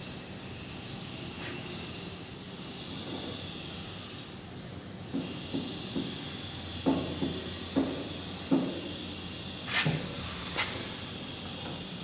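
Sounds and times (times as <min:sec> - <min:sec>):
band saw humming and hissing: 0:00.0 - 0:12.0.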